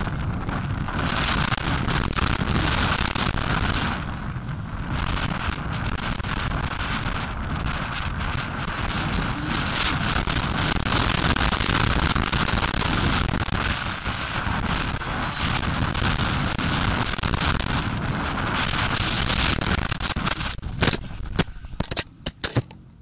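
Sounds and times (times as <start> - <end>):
wind buffeting on microphone: 0.0 - 23.0.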